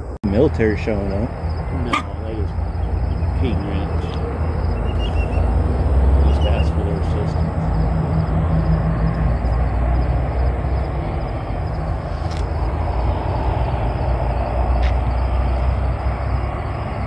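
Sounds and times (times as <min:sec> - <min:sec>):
vehicle and road rumble: 0:00.0 - 0:17.0.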